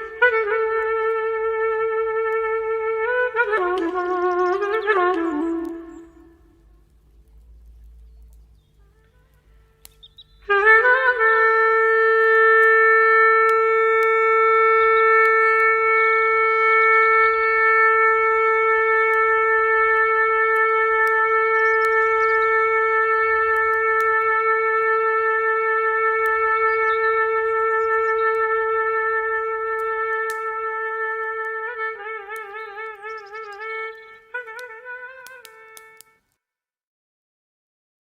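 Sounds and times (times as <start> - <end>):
long clarinet note: 0.0 - 6.7, 8.8 - 36.2.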